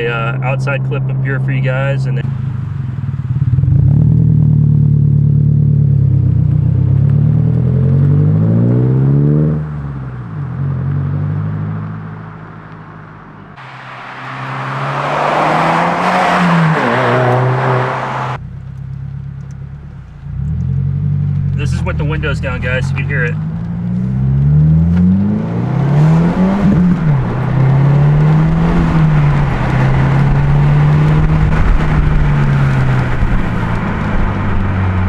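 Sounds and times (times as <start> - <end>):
car exhaust accelerating: 0.0 - 35.0.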